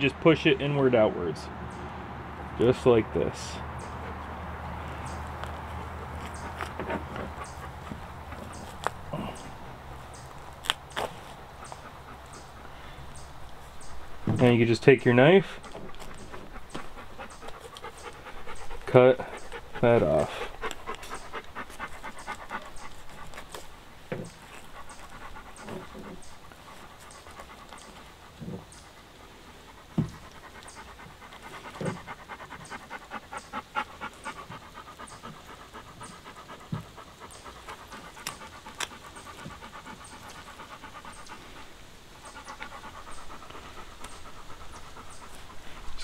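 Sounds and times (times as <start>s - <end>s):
dog panting: 2.6s - 46.0s.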